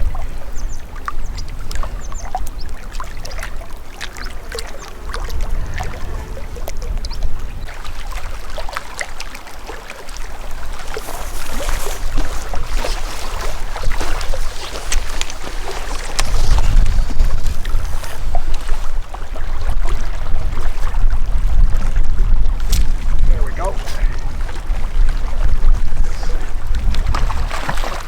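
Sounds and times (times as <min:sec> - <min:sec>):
lake water splashing: 0:00.0 - 0:28.0
wind rumble on microphone: 0:00.0 - 0:28.0.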